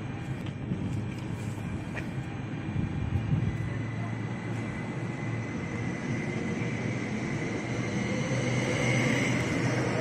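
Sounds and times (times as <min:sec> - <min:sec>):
electric train humming: 0:00.0 - 0:10.0
rising train tone: 0:00.0 - 0:10.0.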